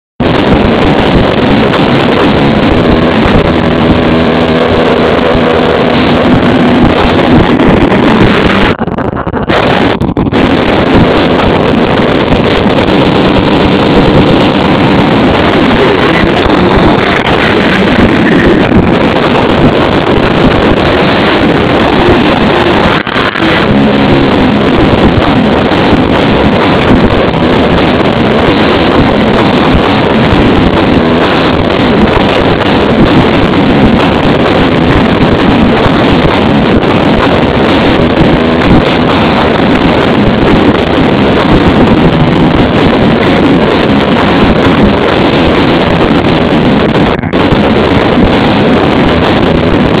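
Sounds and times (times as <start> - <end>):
wind buffeting microphone: 0.0 - 50.0
car engine revving hard: 0.2 - 8.8, 9.5 - 50.0.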